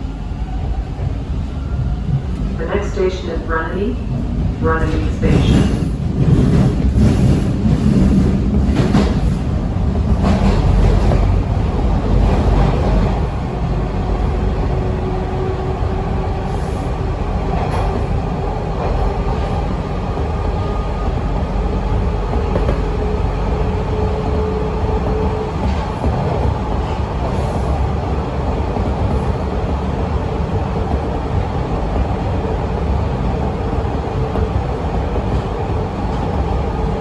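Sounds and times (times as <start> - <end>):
wheels rumbling on track: 0.0 - 37.0.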